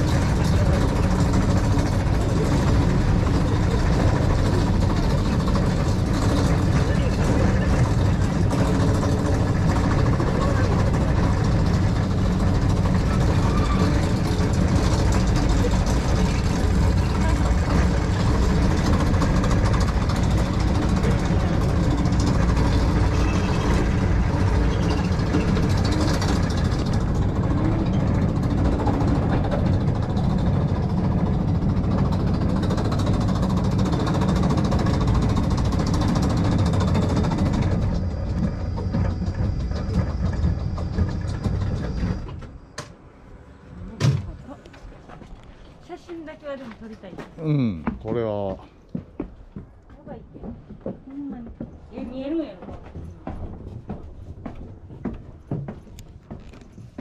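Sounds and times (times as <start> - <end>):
monorail car rumbling on rail: 0.0 - 57.0.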